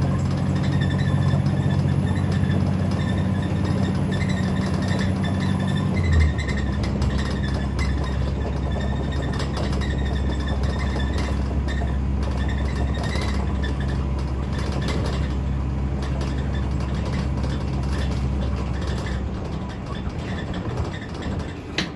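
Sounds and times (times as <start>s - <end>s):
bus diesel engine droning: 0.0s - 21.9s.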